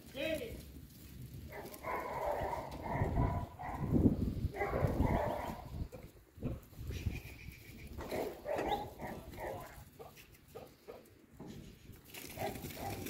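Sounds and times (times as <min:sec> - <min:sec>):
hooves clattering on concrete: 0:00.0 - 0:13.0.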